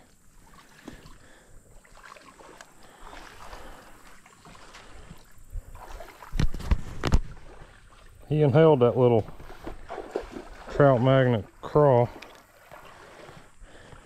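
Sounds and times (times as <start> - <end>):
low outdoor background: 0.0 - 14.0.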